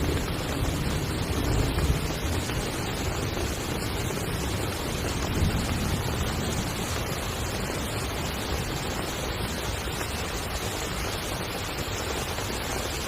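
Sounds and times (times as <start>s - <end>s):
heavy rain on a tent: 0.0s - 13.0s.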